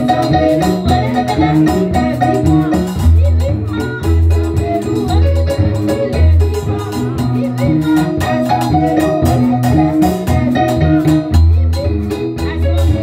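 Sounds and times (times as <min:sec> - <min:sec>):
percussion beat: 0:00.0 - 0:13.0.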